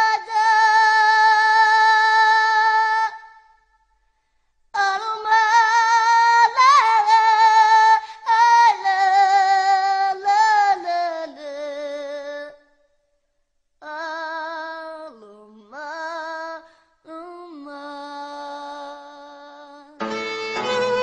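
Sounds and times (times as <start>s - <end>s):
woman singing unaccompanied: 0.0s - 3.4s, 4.8s - 12.6s, 13.8s - 20.0s.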